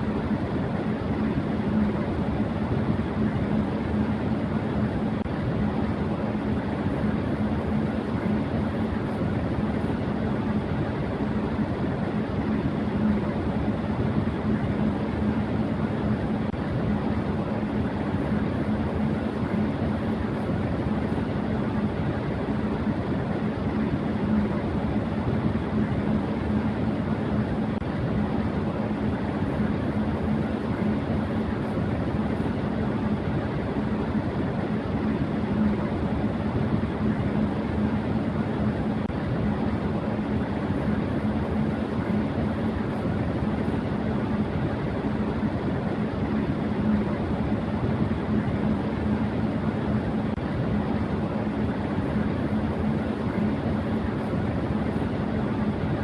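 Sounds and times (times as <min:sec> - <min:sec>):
fan motor hum: 0:00.0 - 0:56.0.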